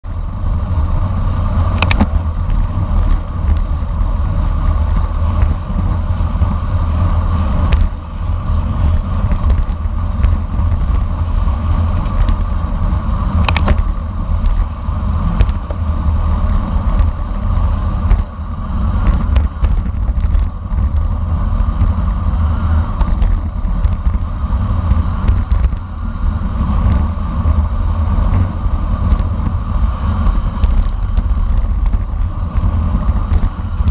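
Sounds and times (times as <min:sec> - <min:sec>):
low road rumble: 0:00.0 - 0:33.9
wind buffeting microphone: 0:00.0 - 0:33.9.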